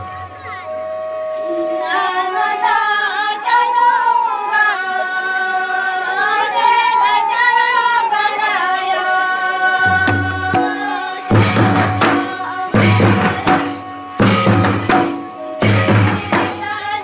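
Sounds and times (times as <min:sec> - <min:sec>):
women singing: 0:01.7 - 0:17.0.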